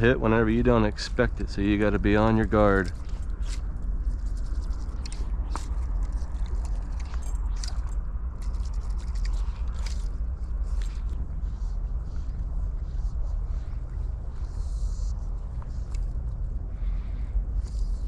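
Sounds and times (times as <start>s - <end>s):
small clicks and scrapes: 1.9s - 16.5s.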